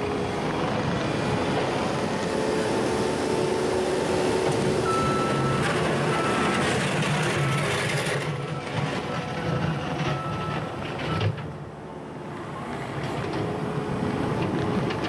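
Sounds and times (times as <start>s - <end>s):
loader engine and hydraulics: 0.0s - 15.0s.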